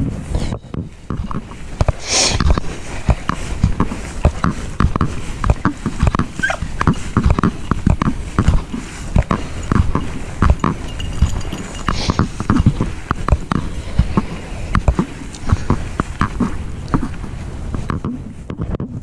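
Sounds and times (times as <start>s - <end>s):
footsteps in frosty grass: 0.0s - 18.5s.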